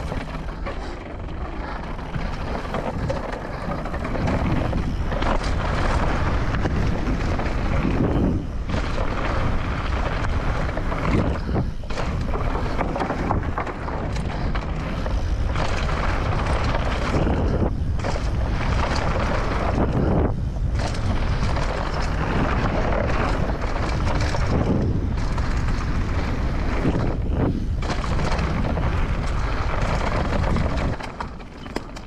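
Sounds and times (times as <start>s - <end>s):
bike rattling and knocking: 0.0s - 32.0s
bike tyre rumble: 0.0s - 32.0s
wind rush on microphone: 0.0s - 32.0s.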